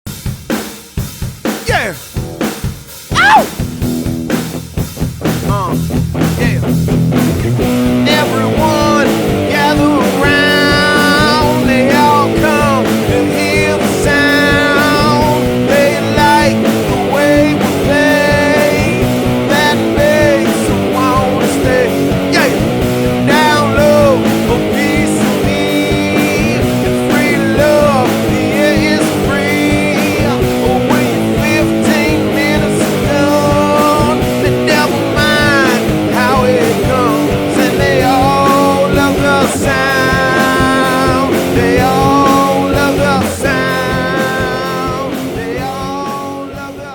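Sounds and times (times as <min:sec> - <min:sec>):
drum kit: 0:00.0 - 0:46.9
electric guitar: 0:01.5 - 0:46.9
person singing: 0:01.6 - 0:02.1, 0:03.1 - 0:03.6, 0:05.4 - 0:06.8, 0:07.9 - 0:46.9.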